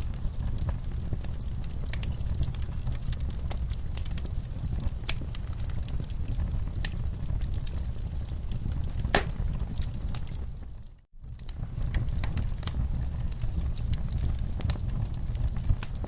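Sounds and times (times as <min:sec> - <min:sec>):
fire popping: 0:00.0 - 0:16.0
low rumble of flames: 0:00.0 - 0:16.0
wood fire crackling: 0:00.0 - 0:16.0.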